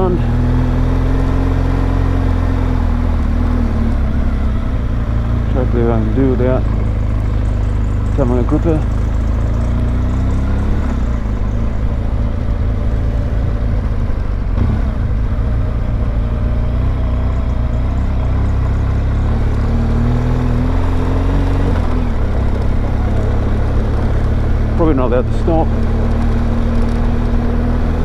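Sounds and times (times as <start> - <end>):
motorcycle engine while riding: 0.0 - 28.0.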